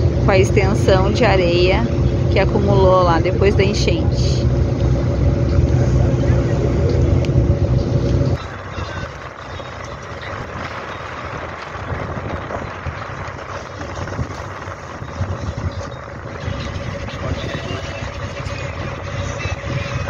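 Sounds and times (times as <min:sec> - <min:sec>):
boat engine humming: 0:00.0 - 0:20.0
water churning past boat: 0:00.0 - 0:20.0.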